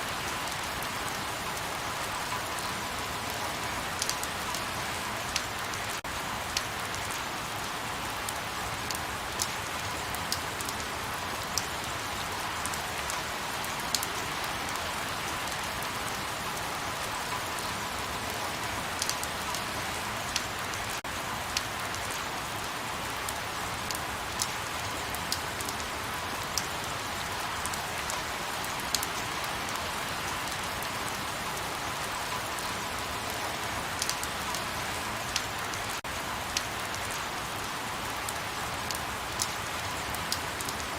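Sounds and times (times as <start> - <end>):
light rain falling: 0.0 - 40.9
raindrops ticking close by: 0.0 - 40.9.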